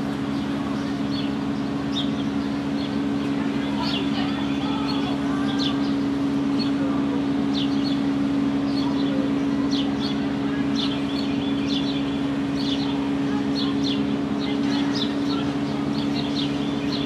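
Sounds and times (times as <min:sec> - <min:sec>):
machine humming: 0:00.0 - 0:17.0
small birds chirping: 0:00.0 - 0:17.0.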